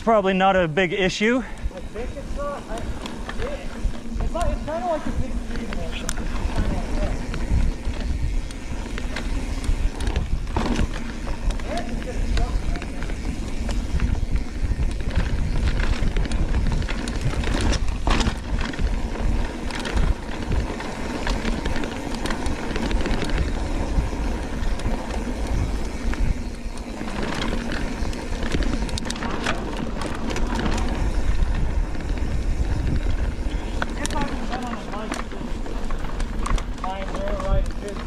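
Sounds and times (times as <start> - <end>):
bike tyre noise: 0.0 - 38.0
bike rattling clicks and knocks: 0.8 - 38.0
wind rumble on microphone: 0.9 - 38.0.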